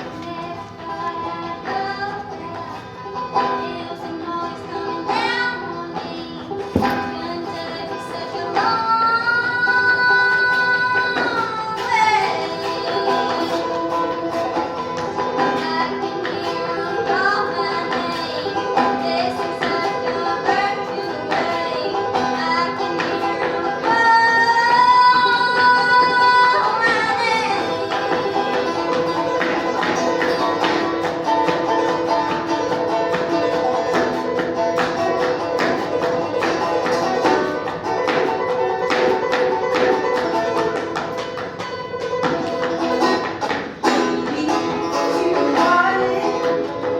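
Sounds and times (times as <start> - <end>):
person singing: 0.0 - 41.3, 43.9 - 46.9
clawhammer banjo playing: 0.0 - 46.9.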